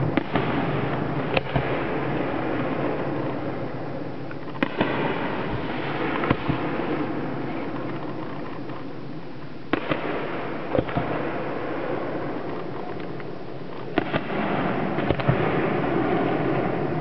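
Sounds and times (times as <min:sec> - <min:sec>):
fireworks bangs: 0:00.0 - 0:17.0
steady background noise: 0:00.0 - 0:17.0.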